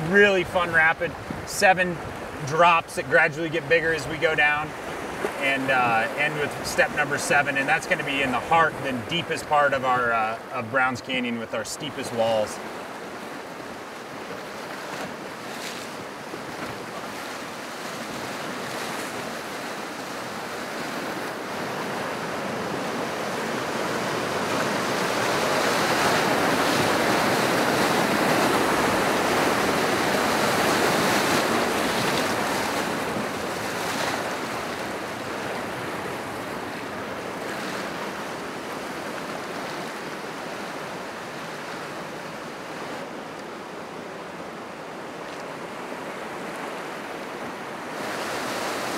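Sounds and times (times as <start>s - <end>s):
rapids rushing over rocks: 0.0s - 48.9s.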